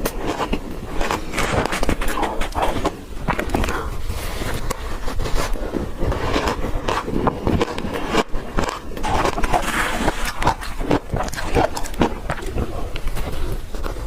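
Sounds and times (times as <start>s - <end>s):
ice crunching being chewed: 0.0s - 14.0s.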